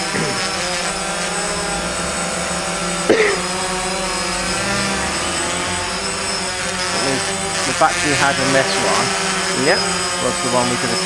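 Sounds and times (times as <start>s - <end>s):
quadcopter motors whining: 0.0s - 11.0s
short squeal dropping in pitch: 0.4s - 10.2s.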